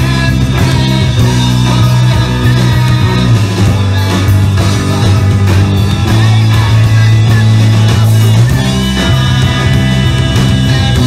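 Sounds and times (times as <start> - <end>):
heavy bass line: 0.0 - 11.0
rock band playing: 0.0 - 11.0.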